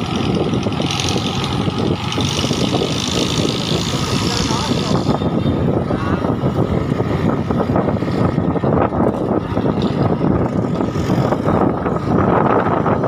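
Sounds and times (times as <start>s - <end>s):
vehicle engine and road noise: 0.0s - 13.0s
wind buffeting microphone: 0.0s - 13.0s.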